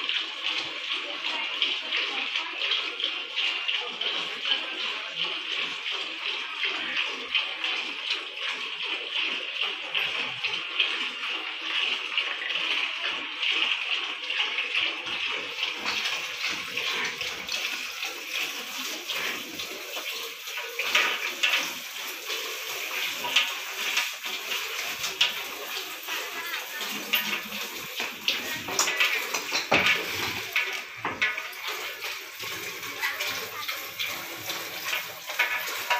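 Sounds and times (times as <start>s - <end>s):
milk squirting into metal pail: 0.0s - 35.9s.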